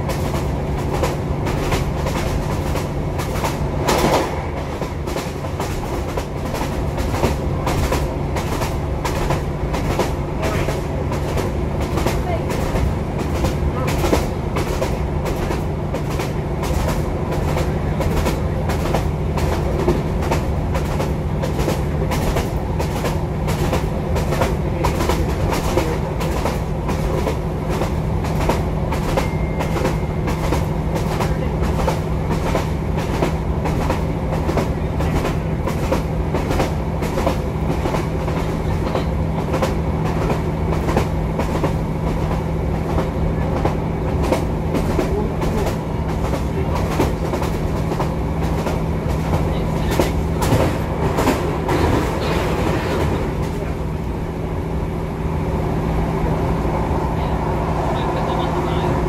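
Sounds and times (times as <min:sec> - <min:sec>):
train engine and wheel rumble: 0:00.0 - 0:59.0.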